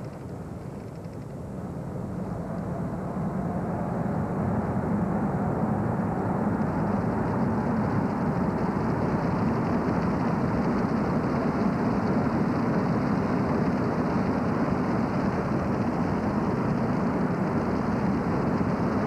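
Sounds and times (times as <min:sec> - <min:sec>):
car engine and tyre noise: 0:01.0 - 0:19.0.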